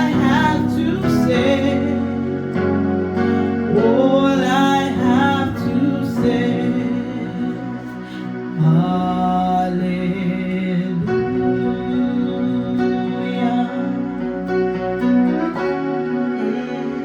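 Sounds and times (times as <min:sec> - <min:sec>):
slow worship music: 0:00.0 - 0:17.0.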